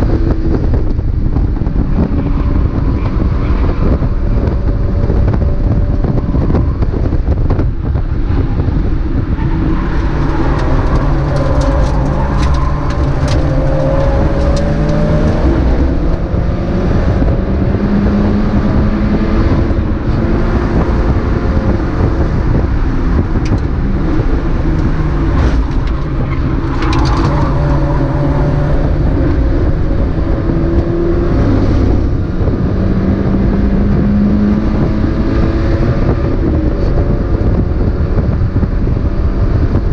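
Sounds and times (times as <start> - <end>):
wind and road noise: 0.0 - 39.9
race car engine accelerating: 2.0 - 39.9.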